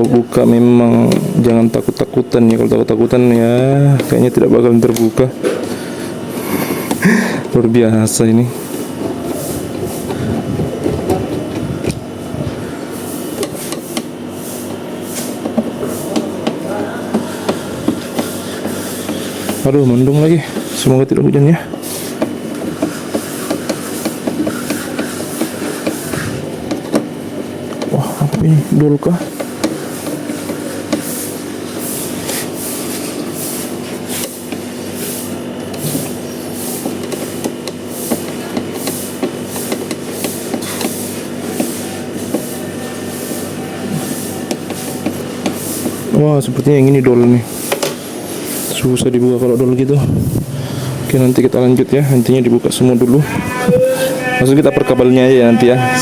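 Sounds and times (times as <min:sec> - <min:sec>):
background noise with low hum: 0:00.0 - 0:56.0.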